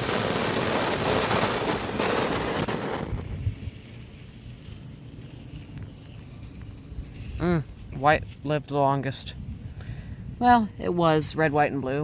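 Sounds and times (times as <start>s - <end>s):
smoke balls hissing: 0.0s - 11.3s.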